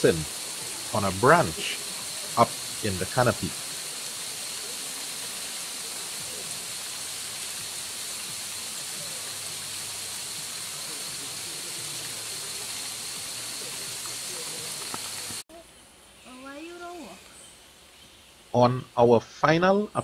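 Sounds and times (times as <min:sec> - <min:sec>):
forest background hiss: 0:00.0 - 0:20.0.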